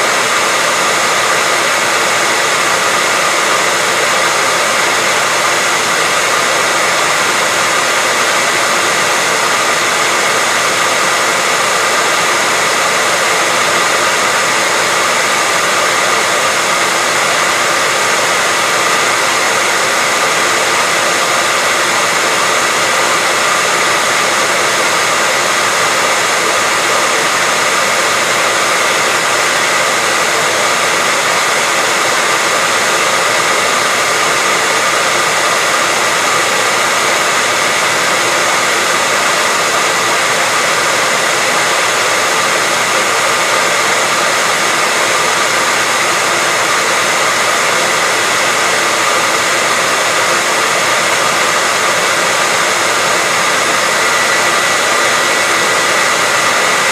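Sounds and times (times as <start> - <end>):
hairdryer blowing: 0.0 - 56.9.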